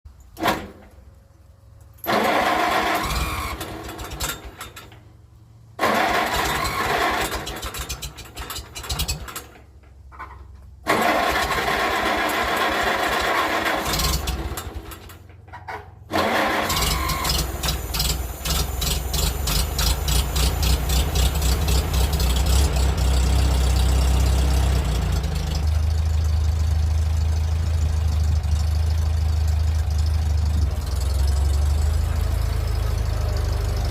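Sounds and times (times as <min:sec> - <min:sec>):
tractor engine cranking and idling: 0:00.1 - 0:33.9.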